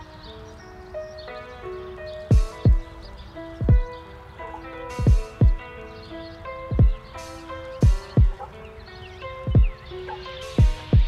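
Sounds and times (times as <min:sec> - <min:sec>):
melody of held notes: 0:00.0 - 0:11.0.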